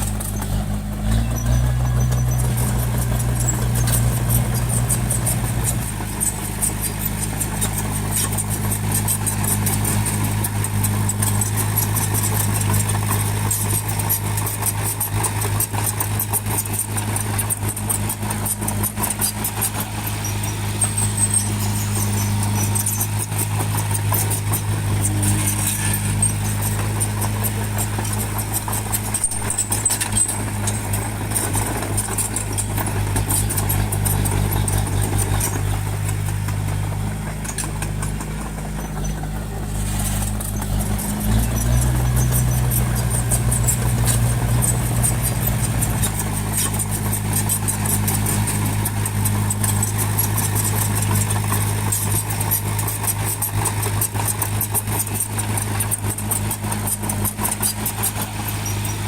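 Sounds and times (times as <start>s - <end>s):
bulldozer diesel engine running: 0.0s - 59.0s
fine metallic rattle: 0.0s - 59.0s.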